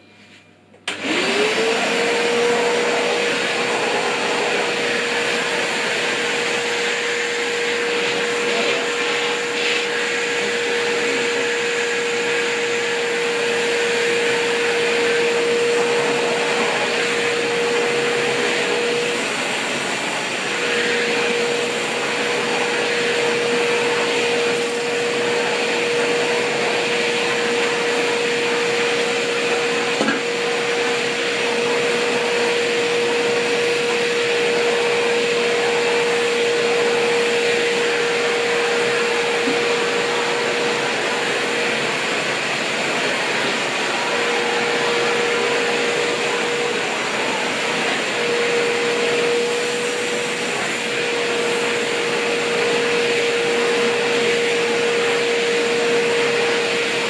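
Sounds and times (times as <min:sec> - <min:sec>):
shop vacuum running: 0:00.0 - 0:57.0.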